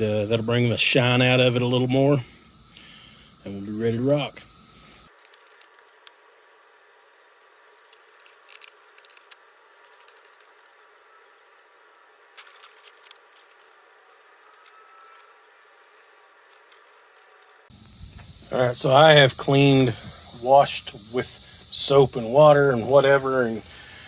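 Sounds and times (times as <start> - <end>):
faint background hiss: 0.0 - 24.0.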